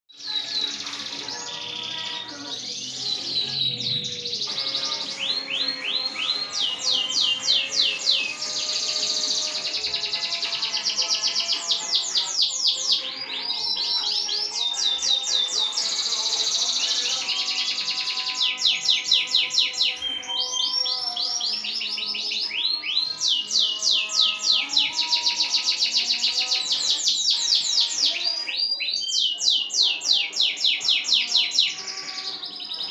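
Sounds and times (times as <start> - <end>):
canary singing: 0.1 - 32.9.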